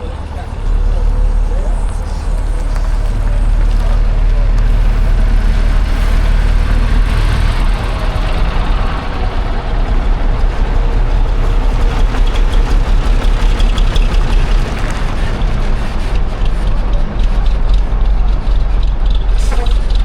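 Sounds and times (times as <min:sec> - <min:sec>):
bus diesel engine throbbing: 0:00.0 - 0:20.0.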